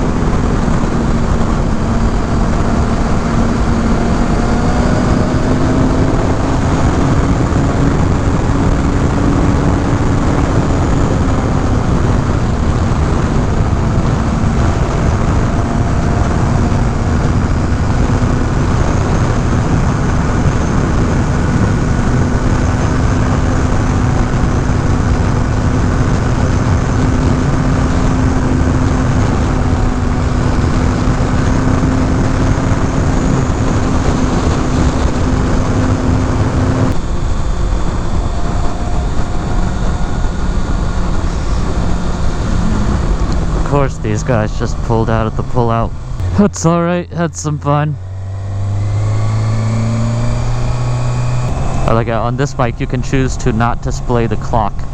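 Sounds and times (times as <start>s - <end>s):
wind rush over microphone: 0.0s - 47.0s, 48.0s - 54.9s
motorcycle engine cruising: 0.0s - 54.9s.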